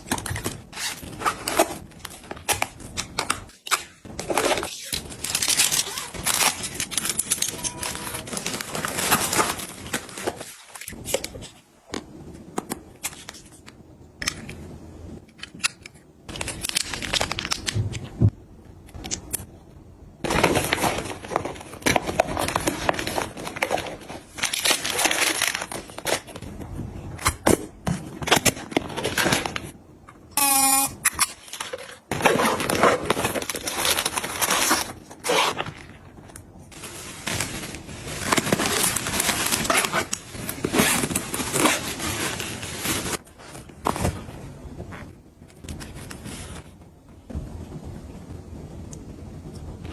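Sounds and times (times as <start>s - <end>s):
plastic packaging crinkling: 0.0s - 14.6s, 15.2s - 18.2s, 20.2s - 47.3s.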